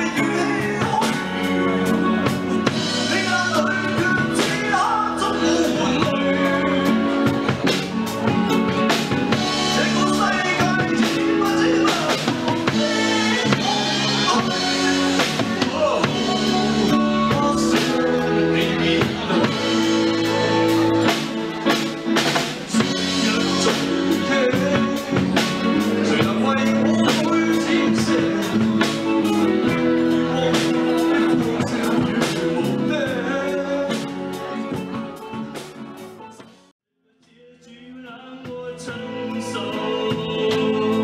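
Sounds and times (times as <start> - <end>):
electric guitar: 0.0 - 36.6
drum kit beat: 0.0 - 36.7
man singing: 0.0 - 41.0.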